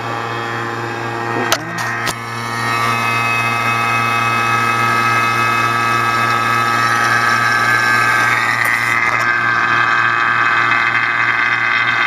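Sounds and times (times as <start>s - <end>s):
vacuum pump humming and whining: 0.0s - 12.0s.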